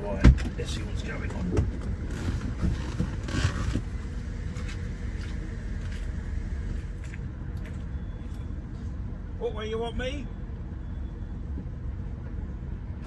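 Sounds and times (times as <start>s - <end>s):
car engine running low rumble: 0.0s - 13.0s.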